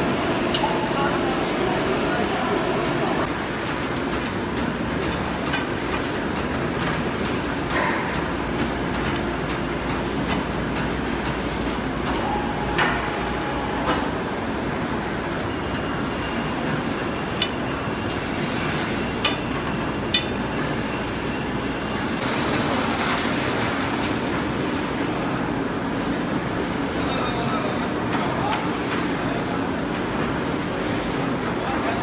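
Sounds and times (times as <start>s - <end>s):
factory machinery running: 0.0s - 32.0s.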